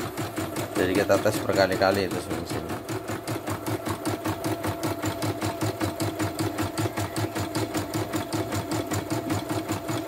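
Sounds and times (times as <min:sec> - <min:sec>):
machine motor hum: 0:00.0 - 0:10.0.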